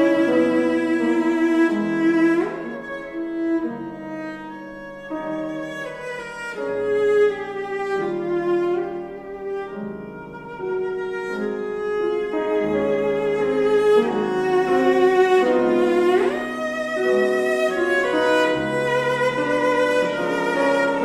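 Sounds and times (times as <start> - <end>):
cello melody with vibrato: 0.0 - 21.0
piano accompaniment: 0.0 - 21.0.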